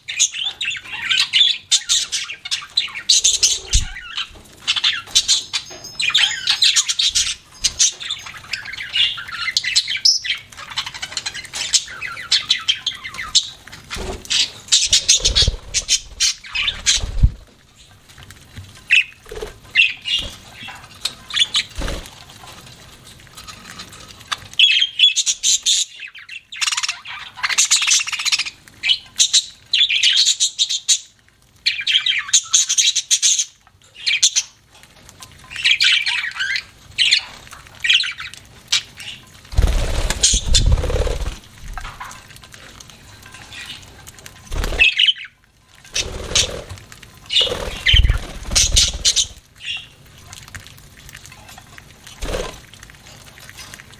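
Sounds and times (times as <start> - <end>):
budgerigars chirping and squawking: 0.0 - 17.5, 18.8 - 22.2, 23.4 - 34.6, 35.4 - 42.3, 43.4 - 50.0.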